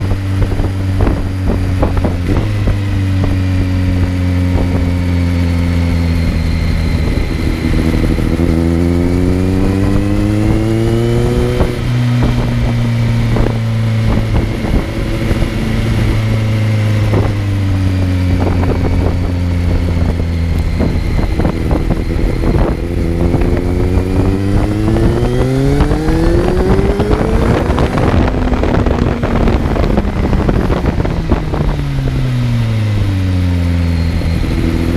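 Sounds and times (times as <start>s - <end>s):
motorcycle engine: 0.0s - 34.9s.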